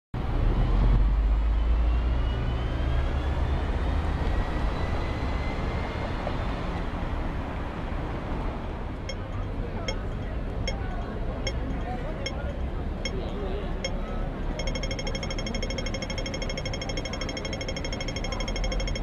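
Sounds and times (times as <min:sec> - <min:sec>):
bus engine rumble: 0:00.2 - 0:19.0.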